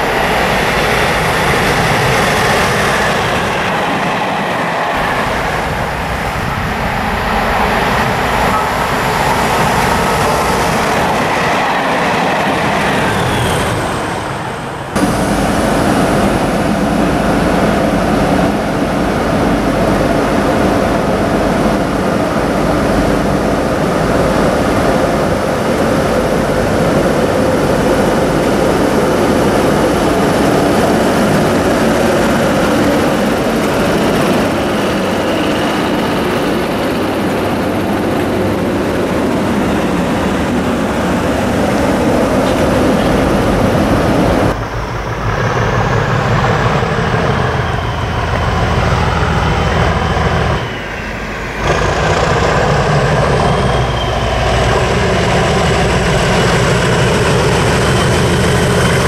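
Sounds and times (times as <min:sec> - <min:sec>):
electric locomotive passing: 0:00.0 - 0:59.0.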